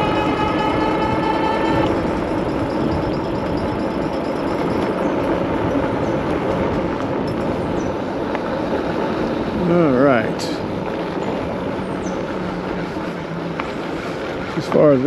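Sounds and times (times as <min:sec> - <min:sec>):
road rumble: 0:00.0 - 0:15.0
wind rushing over microphone: 0:00.0 - 0:15.0.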